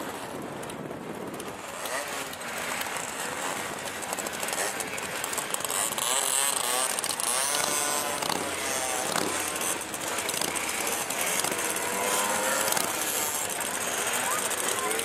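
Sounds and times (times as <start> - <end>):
mopeds riding past: 0.0 - 15.0.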